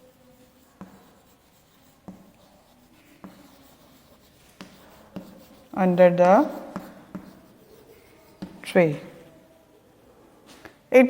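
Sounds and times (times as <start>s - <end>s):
writing on a board: 0.0s - 9.3s.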